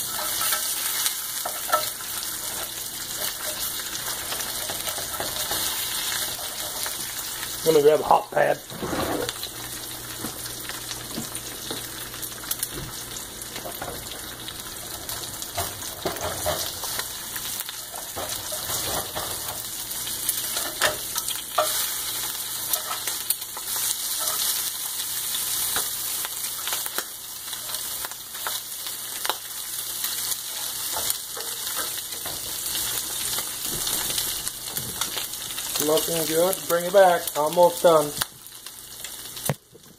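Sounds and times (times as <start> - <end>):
eggs frying in oil: 0.0 - 39.9.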